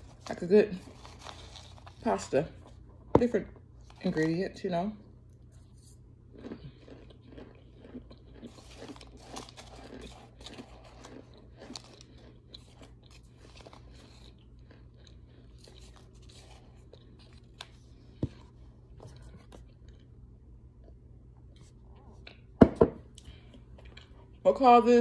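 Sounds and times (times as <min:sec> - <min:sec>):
crunching and chewing: 0:00.0 - 0:04.4, 0:05.1 - 0:24.4.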